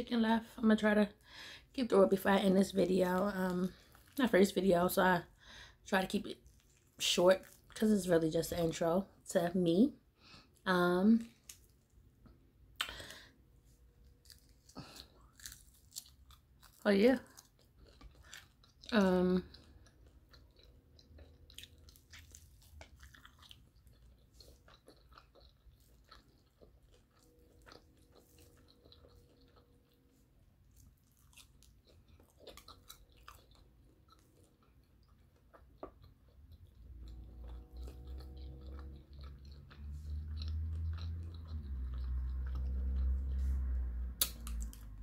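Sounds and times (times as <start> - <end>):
chewing crunchy fried chicken: 2.2 - 8.8, 10.2 - 45.0.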